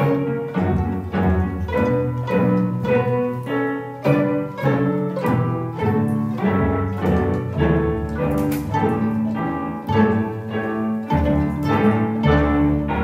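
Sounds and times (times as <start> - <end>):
string orchestra playing: 0.0 - 13.0.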